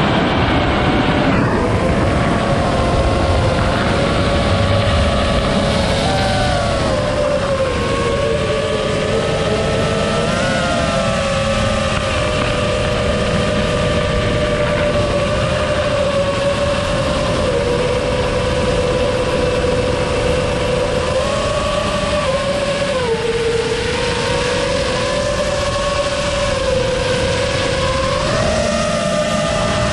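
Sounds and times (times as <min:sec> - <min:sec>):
quadcopter motors whining: 0:00.0 - 0:29.9
wind noise: 0:00.0 - 0:29.9.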